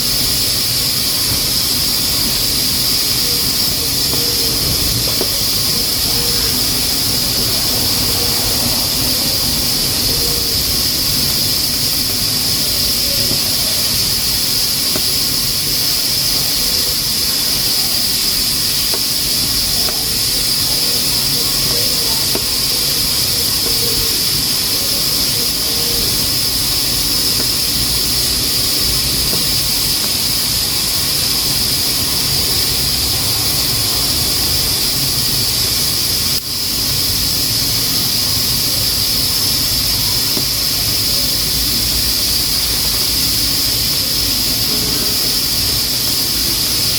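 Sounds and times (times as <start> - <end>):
pressure cooker hissing and whistling: 0.0 - 46.9.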